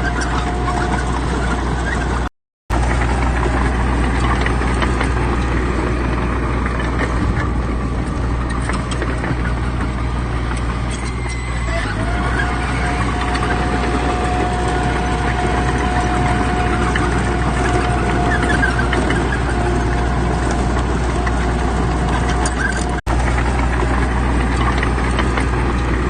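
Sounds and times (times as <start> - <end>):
heavy diesel engines droning: 0.0 - 26.0.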